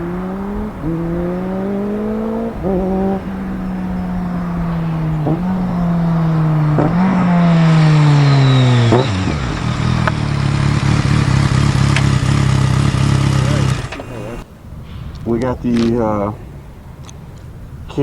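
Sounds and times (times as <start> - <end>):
motorcycle engine downshifting: 0.0 - 14.5.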